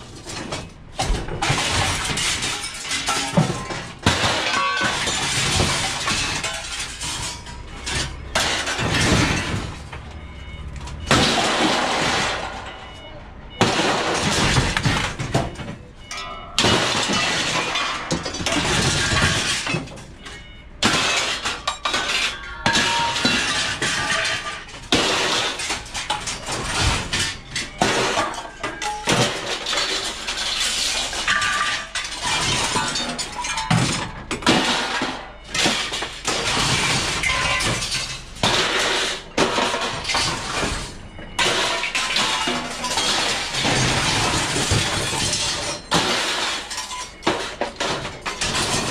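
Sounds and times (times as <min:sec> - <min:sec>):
scrap metal clattering onto pile: 0:00.0 - 0:48.9.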